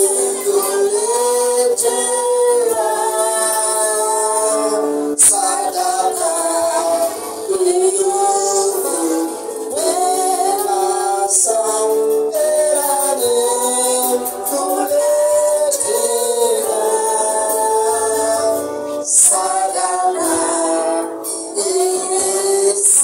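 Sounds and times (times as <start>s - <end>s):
group singing worship music: 0.0s - 23.0s
instrumental backing: 0.0s - 23.0s.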